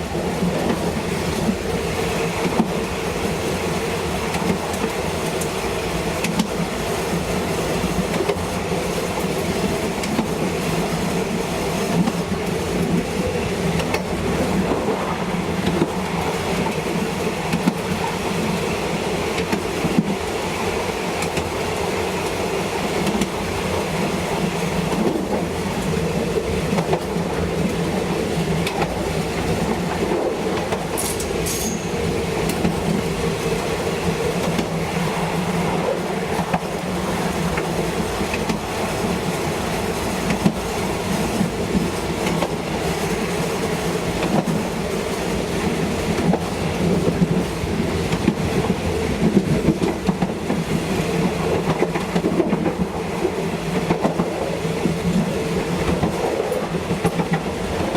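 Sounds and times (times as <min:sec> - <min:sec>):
train wheels rumbling: 0:00.0 - 0:57.9
rail joint clicks: 0:00.1 - 0:57.9.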